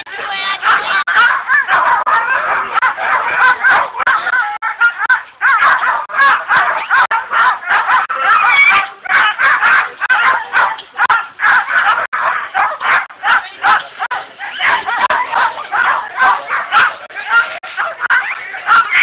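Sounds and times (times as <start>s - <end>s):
sled dogs barking and yelping: 0.0s - 19.0s.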